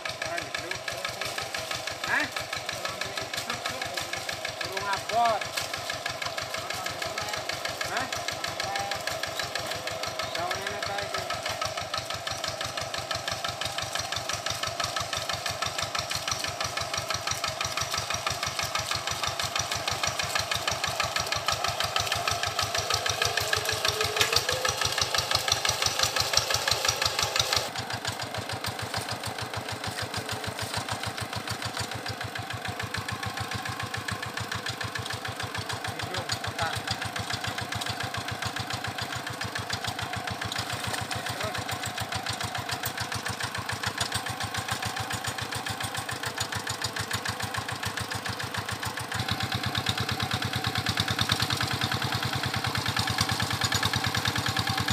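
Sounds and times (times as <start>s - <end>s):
diesel engine chugging: 0.0s - 54.9s.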